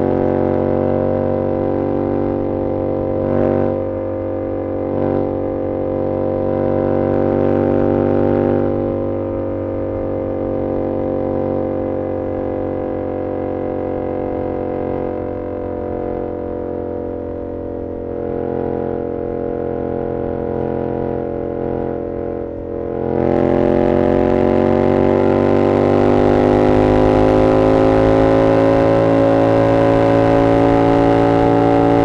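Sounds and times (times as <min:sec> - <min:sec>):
motorcycle engine droning: 0:00.0 - 0:32.0.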